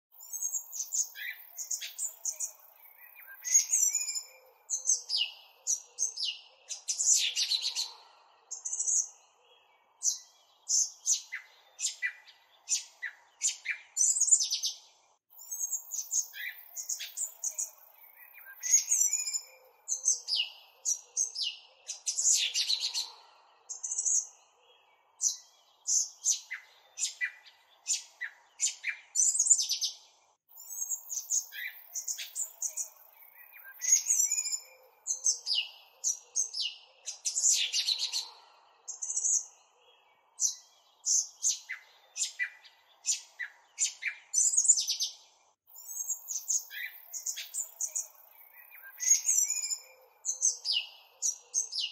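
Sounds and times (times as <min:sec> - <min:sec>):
songbirds chirping and trilling: 0:00.1 - 0:51.9.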